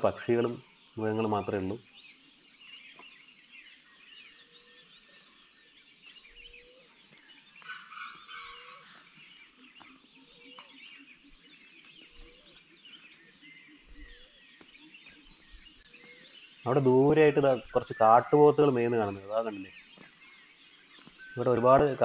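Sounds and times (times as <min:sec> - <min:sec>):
high bird chirps: 0:00.0 - 0:22.0
loud bird call: 0:00.0 - 0:22.0.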